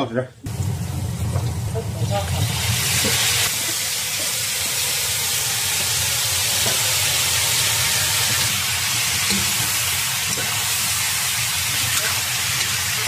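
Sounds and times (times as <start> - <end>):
meat sizzling in a wok: 0.5 - 13.0.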